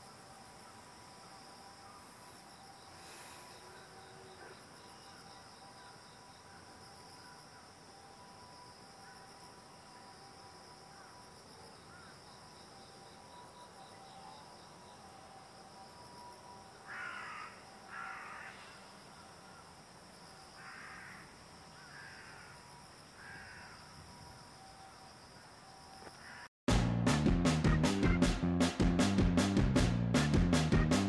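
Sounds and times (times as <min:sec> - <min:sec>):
insects chirring: 0:00.0 - 0:26.5.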